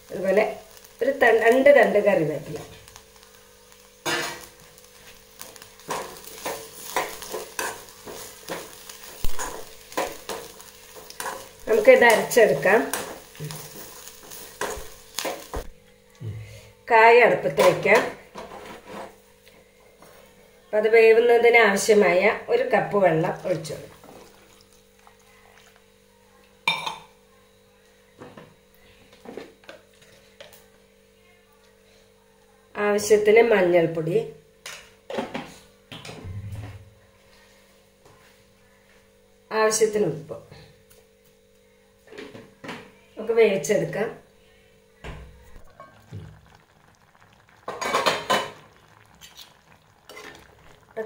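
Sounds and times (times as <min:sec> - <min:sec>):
faint sizzle: 0:00.0 - 0:51.0.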